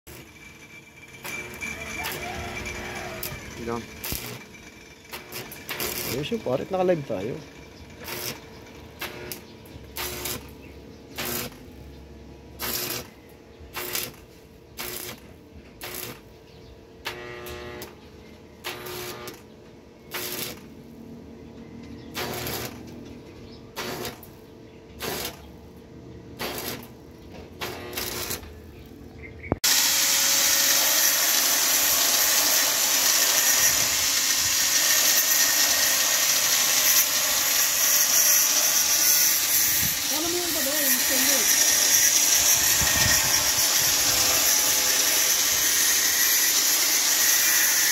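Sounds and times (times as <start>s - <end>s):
angle grinder on steel: 0.1s - 11.8s, 12.6s - 16.3s, 17.1s - 20.8s, 22.1s - 23.0s, 23.7s - 24.4s, 25.0s - 25.5s, 26.4s - 27.0s, 27.6s - 28.6s, 29.6s - 47.9s
welding arc crackle: 0.1s - 11.8s, 12.6s - 16.3s, 18.6s - 19.4s, 20.1s - 20.8s, 22.1s - 22.9s, 23.7s - 24.4s, 25.0s - 25.5s, 26.4s - 28.6s, 29.6s - 47.9s.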